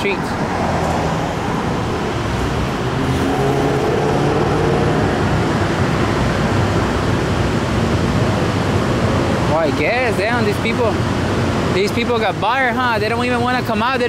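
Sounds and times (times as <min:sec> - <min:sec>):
heavy vehicle engine humming: 0:00.0 - 0:11.8
steady rush of noise: 0:00.0 - 0:14.0.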